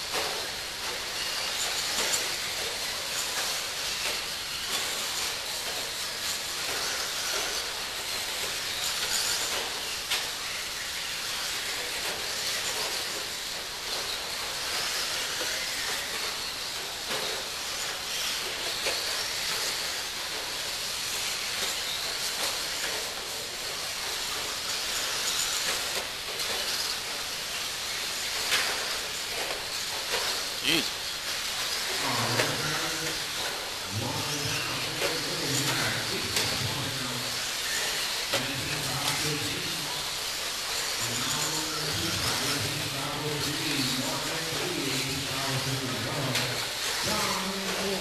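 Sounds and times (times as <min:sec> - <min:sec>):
rc cars motors and tyres hissing: 0:00.0 - 0:48.0.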